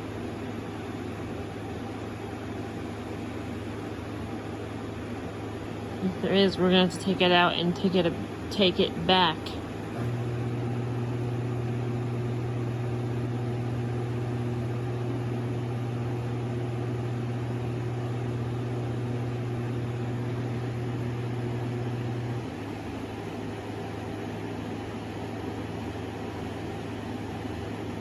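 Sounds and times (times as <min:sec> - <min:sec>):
air conditioner hum: 0:00.0 - 0:28.0
fan noise: 0:00.0 - 0:28.0.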